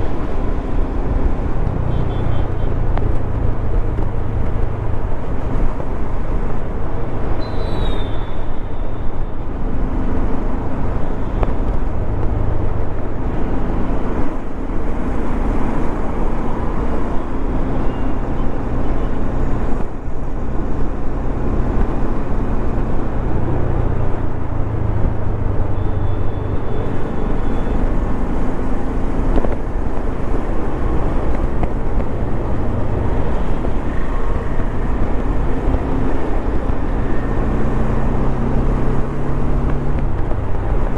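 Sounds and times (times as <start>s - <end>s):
road and wind rush: 0.0s - 40.9s.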